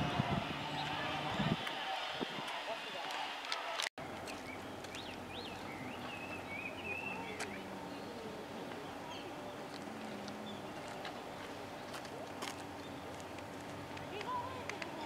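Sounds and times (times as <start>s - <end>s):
faint distant voices: 0.0s - 15.0s.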